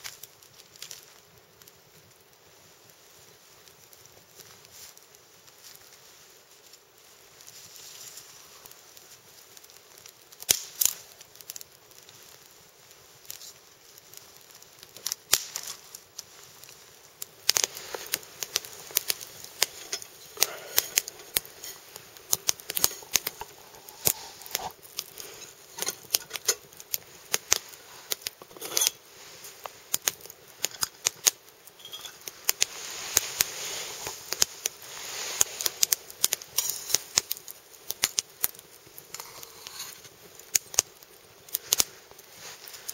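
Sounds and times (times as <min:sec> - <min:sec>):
campfire crackling: 0:00.0 - 0:42.9
fire snaps and pops: 0:00.0 - 0:42.9.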